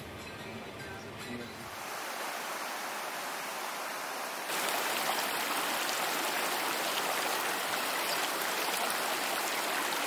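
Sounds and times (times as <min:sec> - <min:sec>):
stream running over rocks: 0:01.8 - 0:10.0.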